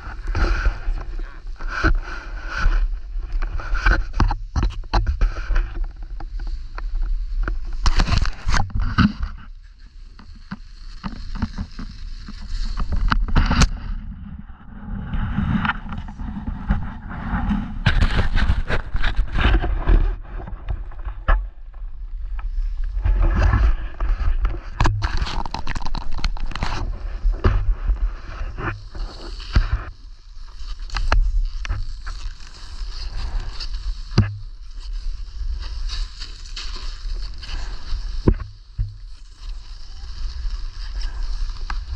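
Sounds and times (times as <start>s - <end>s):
ski edges scraping over snow: 0.0s - 41.9s.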